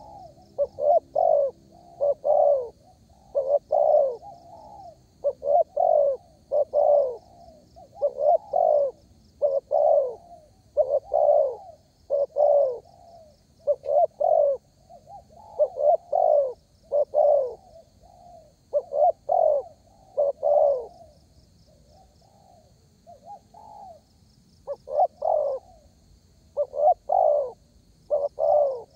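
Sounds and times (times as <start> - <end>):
dove cooing: 0.0 - 25.9, 26.6 - 28.9.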